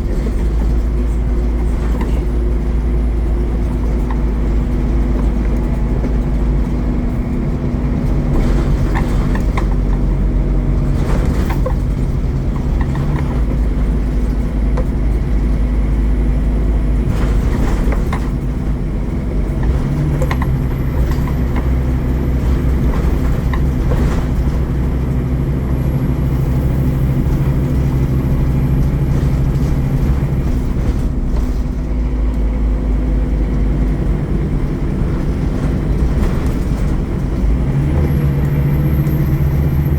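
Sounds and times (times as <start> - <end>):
bus diesel engine running: 0.0 - 39.9
knocks and rattles: 0.0 - 39.9.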